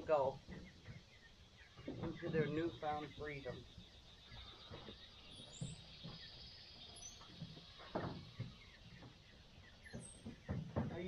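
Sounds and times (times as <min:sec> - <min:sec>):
faint chicken calls: 0:00.0 - 0:11.0
high chirps: 0:01.1 - 0:10.3.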